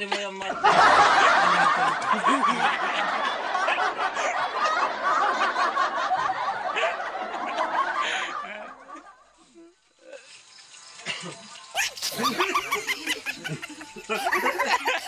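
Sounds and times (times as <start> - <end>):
men laughing: 0.2 - 10.2, 11.0 - 15.0.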